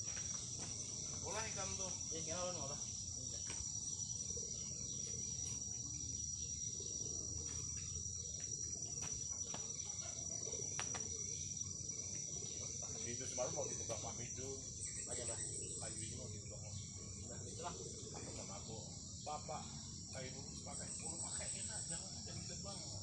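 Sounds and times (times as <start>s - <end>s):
insect chorus shrilling: 0.0s - 23.0s.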